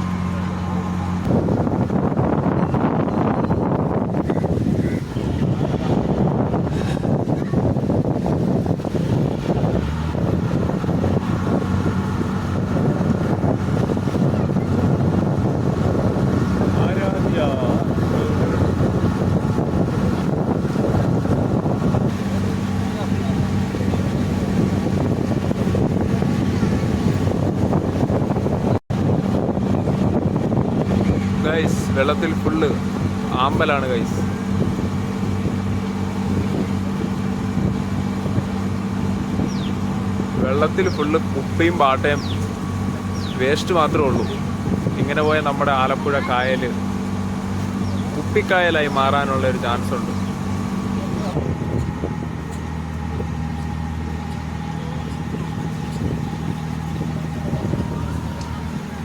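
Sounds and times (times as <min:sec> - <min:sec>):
ferry engine running: 0:00.0 - 0:59.0
wind on microphone: 0:00.0 - 0:59.0.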